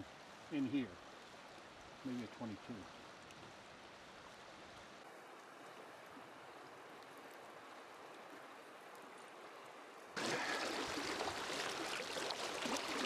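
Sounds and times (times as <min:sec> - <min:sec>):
faint flowing stream water: 0:00.0 - 0:13.0.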